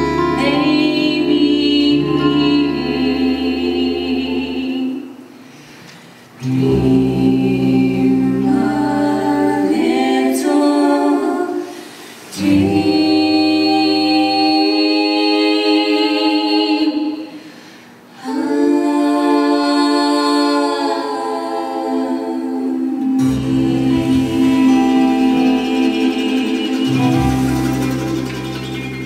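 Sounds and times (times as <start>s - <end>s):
voices singing close harmony: 0.0s - 5.3s, 6.4s - 17.3s, 18.2s - 29.0s.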